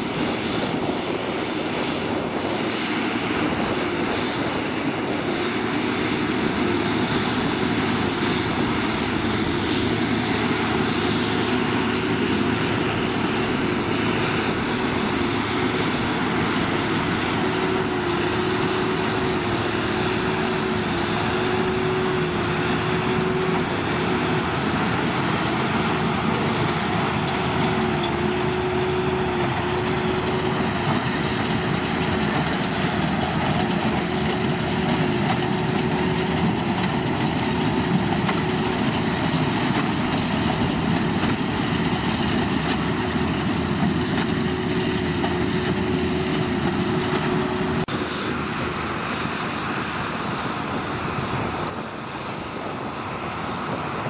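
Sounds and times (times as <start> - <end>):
constant whining tone: 0.0 - 54.0
tractor engine and machinery drone: 0.0 - 54.0.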